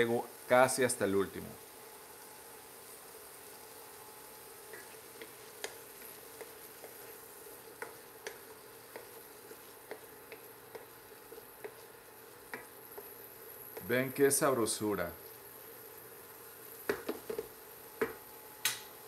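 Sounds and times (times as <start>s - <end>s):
faint sizzle: 0.0s - 19.0s.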